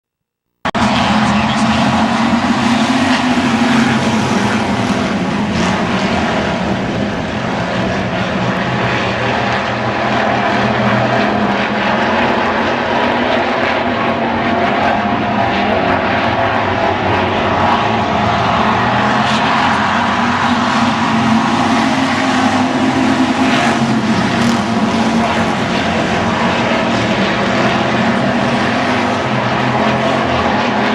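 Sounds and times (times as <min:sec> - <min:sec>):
race car engine: 0:00.7 - 0:30.9.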